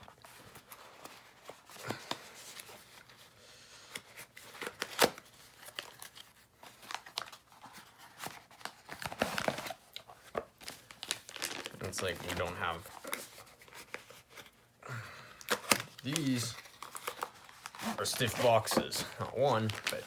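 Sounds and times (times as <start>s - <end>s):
cardboard crinkling and rustling: 0.0s - 14.7s, 15.5s - 20.0s.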